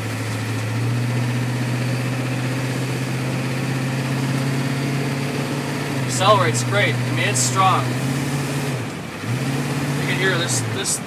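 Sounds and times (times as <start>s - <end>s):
diesel engine drone: 0.0s - 11.0s.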